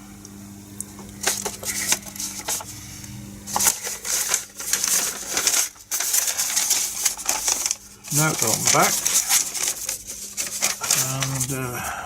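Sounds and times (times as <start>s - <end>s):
paper rustling and crinkling: 1.2s - 2.7s, 3.5s - 11.8s.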